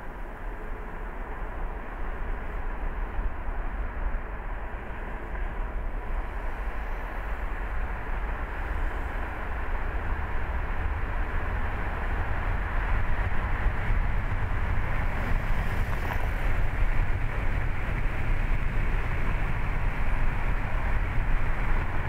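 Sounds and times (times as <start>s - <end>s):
low engine rumble: 0.0s - 22.0s
tyre and road noise: 0.0s - 22.0s.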